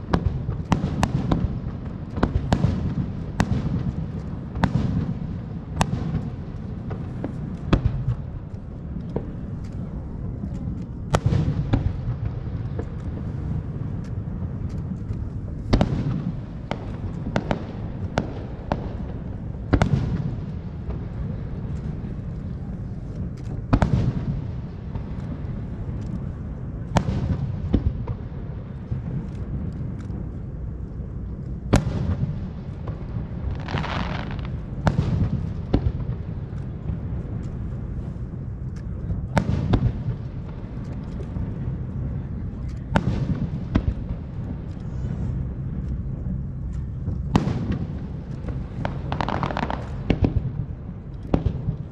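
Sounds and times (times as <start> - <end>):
fireworks bangs: 0.0 - 14.6, 15.3 - 30.3, 31.7 - 51.9
fireworks pops and crackles: 0.0 - 51.9.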